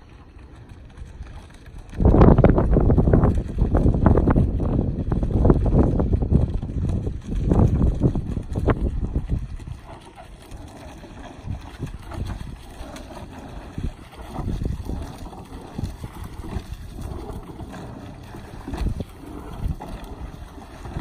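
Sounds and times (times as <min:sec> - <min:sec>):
oars splashing and knocking: 0:00.0 - 0:21.0
wind buffeting microphone: 0:00.0 - 0:21.0.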